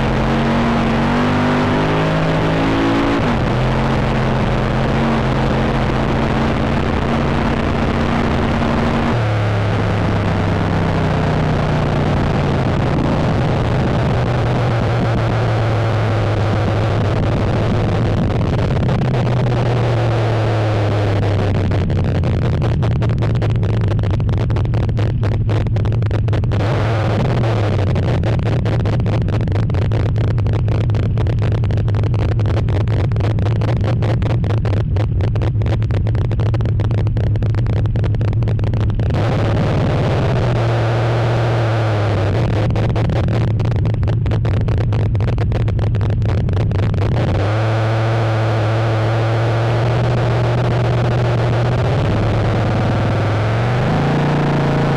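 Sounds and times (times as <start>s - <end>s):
distorted engine running hard: 0.0s - 54.9s.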